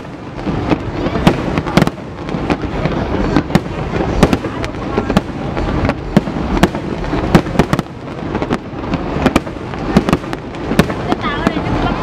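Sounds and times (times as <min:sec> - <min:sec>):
firework shells bursting: 0:00.0 - 0:11.8
firework rumble and crackle: 0:00.0 - 0:12.0.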